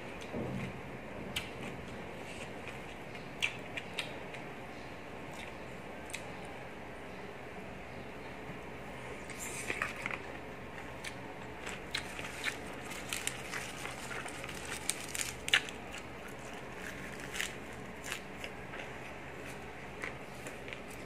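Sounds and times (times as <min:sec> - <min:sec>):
person chewing crisp vegetables: 0:01.3 - 0:06.5, 0:09.2 - 0:21.0.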